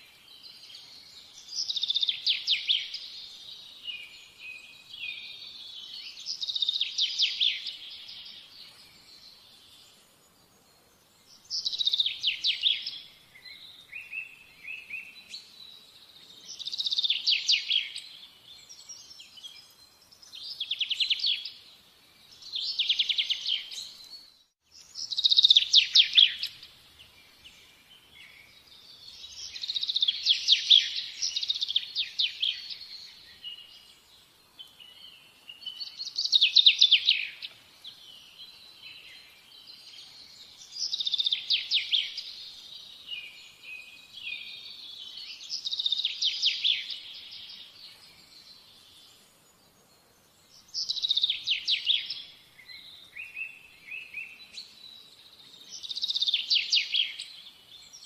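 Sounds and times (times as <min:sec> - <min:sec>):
songbird singing trills: 0:00.0 - 0:58.0.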